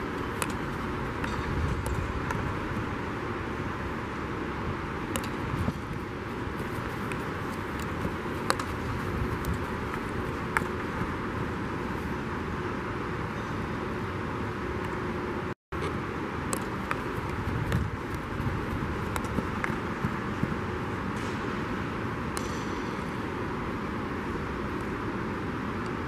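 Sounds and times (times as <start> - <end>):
indoor dome rushing noise: 0.0 - 26.0.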